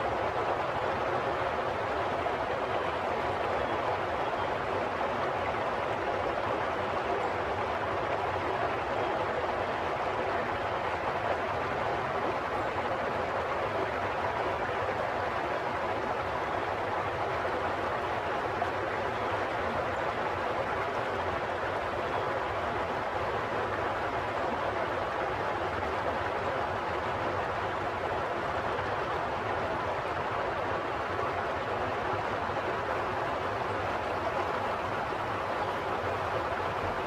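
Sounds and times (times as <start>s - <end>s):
running water: 0.0s - 37.0s.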